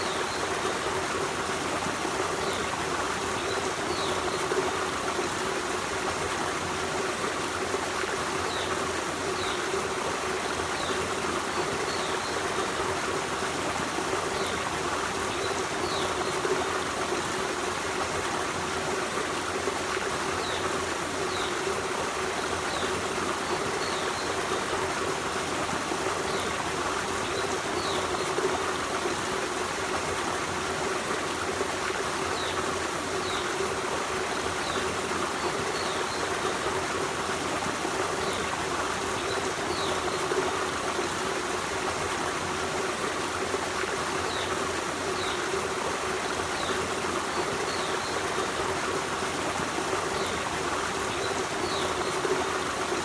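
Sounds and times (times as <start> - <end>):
stream running over stones: 0.0 - 53.0.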